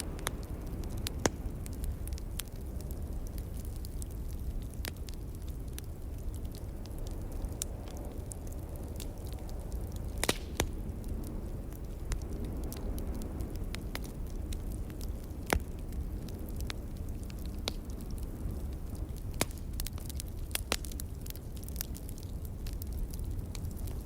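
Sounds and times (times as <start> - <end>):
logs crackling and popping in fireplace: 0.0 - 24.0
steady low rumble: 0.0 - 24.0.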